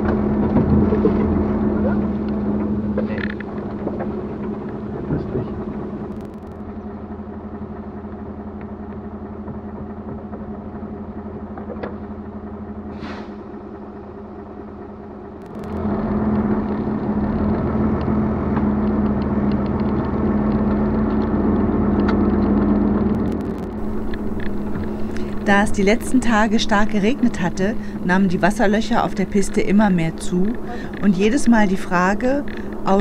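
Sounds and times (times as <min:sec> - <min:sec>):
tyres rolling on dirt track: 0:00.0 - 0:33.0
vehicle engine running: 0:00.0 - 0:33.0.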